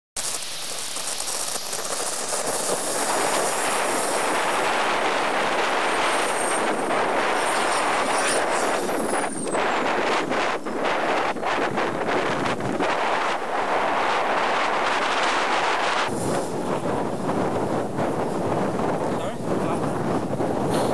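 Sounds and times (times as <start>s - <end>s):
model turbojet engine roaring: 0.2s - 20.9s
high engine whine: 0.4s - 20.0s.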